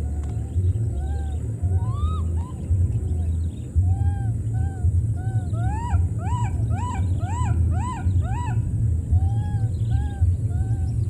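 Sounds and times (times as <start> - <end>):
baby monkey crying: 0.0 - 11.0
low rumble: 0.0 - 11.0.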